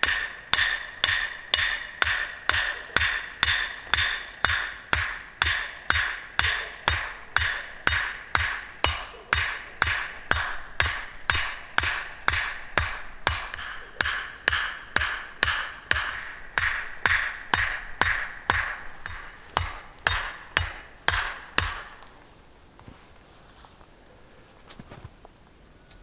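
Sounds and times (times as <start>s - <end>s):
axe knocking wooden stakes: 0.0s - 22.1s.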